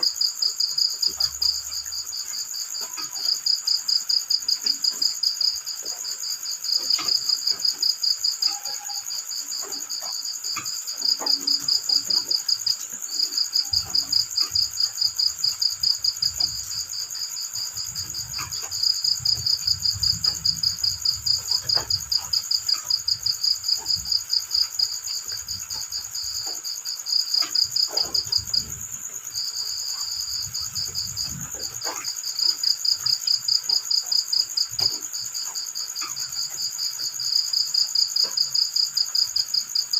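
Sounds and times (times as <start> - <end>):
cricket chirping trill: 0.0 - 39.9.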